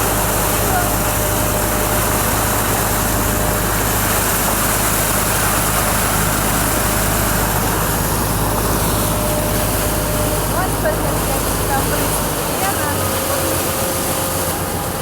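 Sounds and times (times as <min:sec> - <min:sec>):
motor boat engine running: 0:00.0 - 0:15.0.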